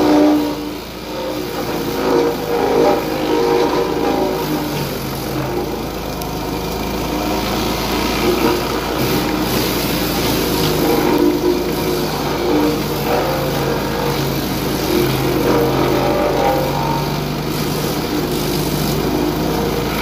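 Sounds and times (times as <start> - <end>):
wood chipper engine running: 0.0 - 20.0.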